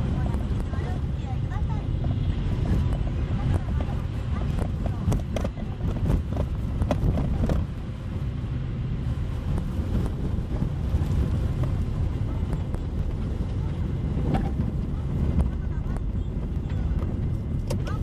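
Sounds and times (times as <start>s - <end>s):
tyres and engine rumble: 0.0s - 18.0s.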